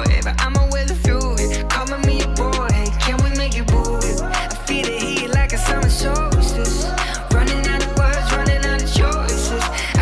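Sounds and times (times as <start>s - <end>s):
r and b music with beat: 0.0s - 10.0s.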